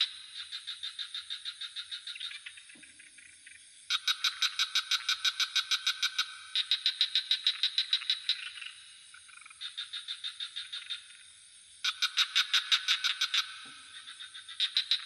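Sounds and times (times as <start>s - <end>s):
frogs calling in pulsed trills: 0.0s - 15.0s
high insect drone: 0.0s - 15.0s.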